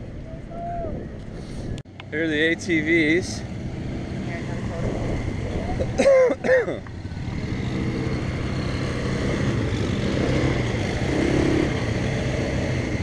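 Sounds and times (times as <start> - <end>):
quad bike engines idling: 0.0 - 13.0.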